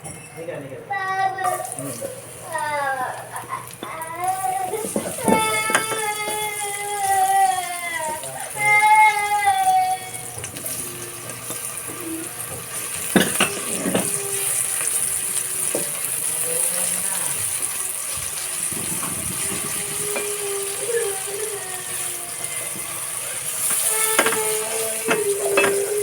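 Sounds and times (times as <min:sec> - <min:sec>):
meat sizzling in hot oil: 0:00.9 - 0:26.0.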